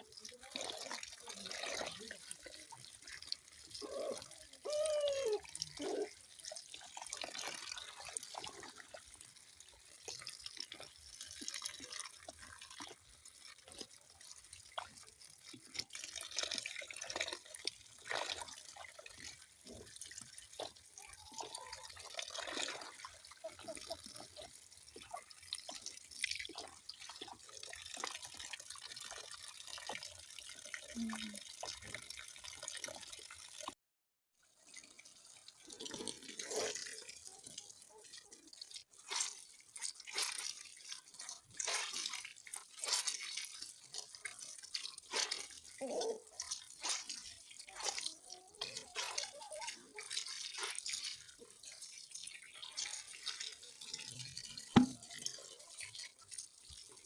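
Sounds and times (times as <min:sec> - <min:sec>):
water dripping and splashing: 0:00.0 - 0:33.8, 0:34.6 - 0:57.0
water trickling: 0:00.0 - 0:33.8, 0:34.6 - 0:57.0.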